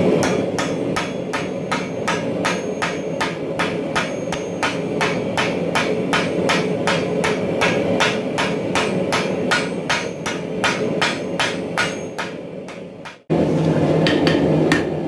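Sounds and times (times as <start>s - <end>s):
hammer striking steel on anvil: 0.0s - 13.3s.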